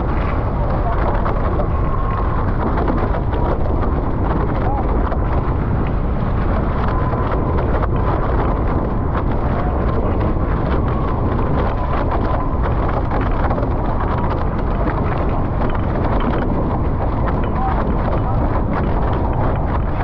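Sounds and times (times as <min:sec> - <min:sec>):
water rushing along hulls: 0:00.0 - 0:20.0
wind buffeting microphone: 0:00.0 - 0:20.0.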